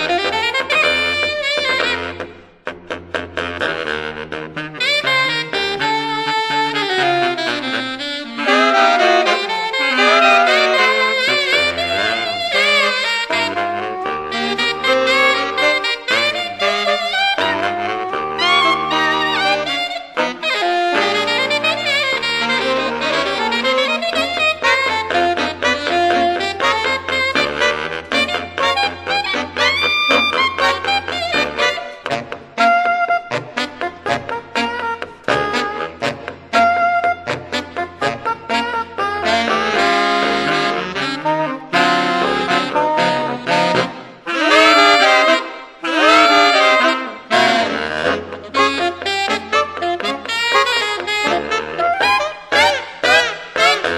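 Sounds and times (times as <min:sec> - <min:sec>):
saxophone quartet playing jazz: 0:00.0 - 0:53.9.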